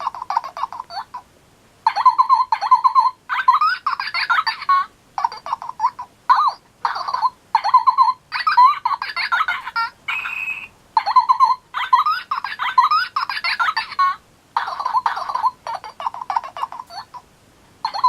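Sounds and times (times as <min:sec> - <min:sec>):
electronic toy chirps and babble: 0:00.0 - 0:01.2, 0:01.9 - 0:17.2.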